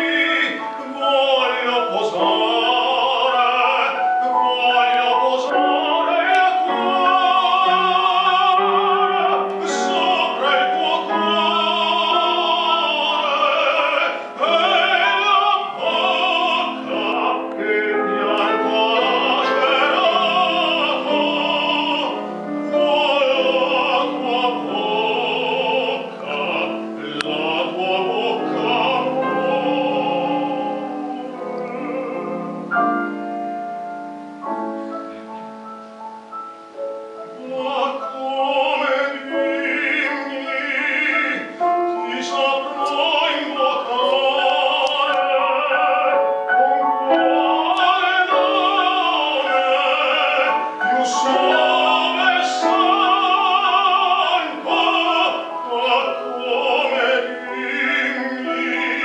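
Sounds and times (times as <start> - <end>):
instrumental accompaniment: 0.0 - 59.0
tenor singing with vibrato: 0.0 - 59.0.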